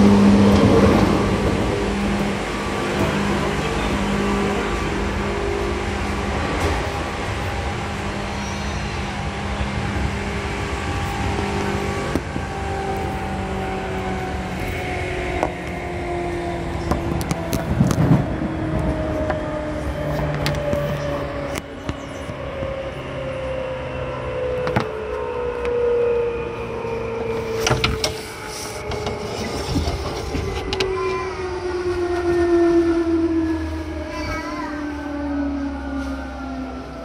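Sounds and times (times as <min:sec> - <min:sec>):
electric train motor whine: 0:00.0 - 0:33.9.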